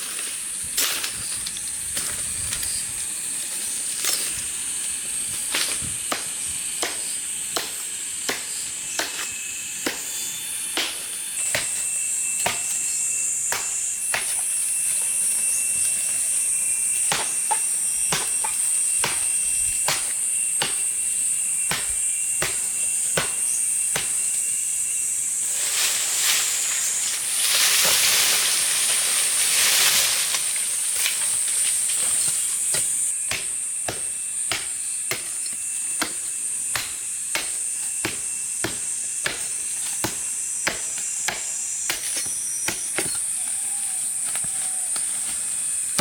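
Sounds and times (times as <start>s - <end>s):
blade chopping plant stems: 0.0s - 24.6s, 25.6s - 43.5s, 44.1s - 46.0s
steady high-pitched hiss: 0.0s - 46.0s.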